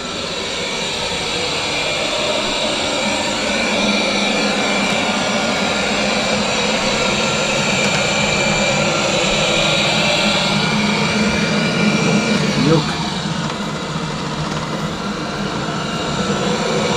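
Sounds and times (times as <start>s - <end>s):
robot vacuum cleaner humming: 0.0s - 16.9s.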